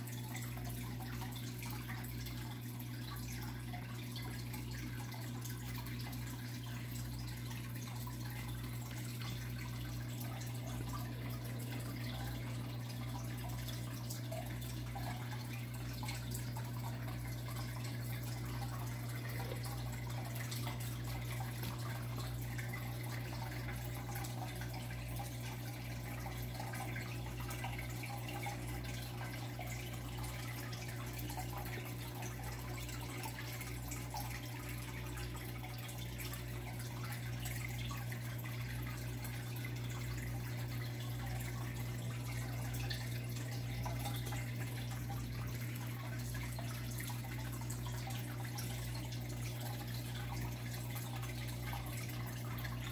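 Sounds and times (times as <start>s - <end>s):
aquarium water bubbling: 0.0s - 52.9s.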